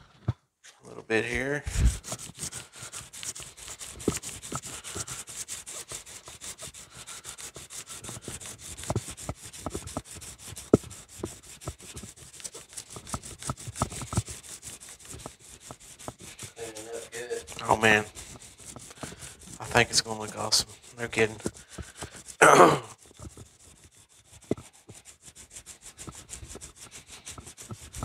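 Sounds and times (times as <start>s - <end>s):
sandpaper rubbing on steel blade: 1.4s - 28.0s.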